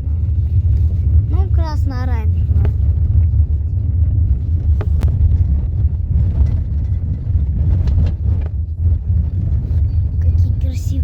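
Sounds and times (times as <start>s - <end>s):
car driving rumble from inside: 0.0s - 11.0s.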